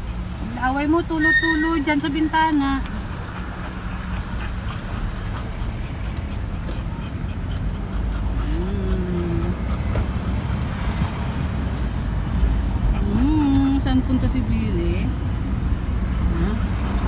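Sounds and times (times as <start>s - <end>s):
car driving along road: 0.0s - 17.0s.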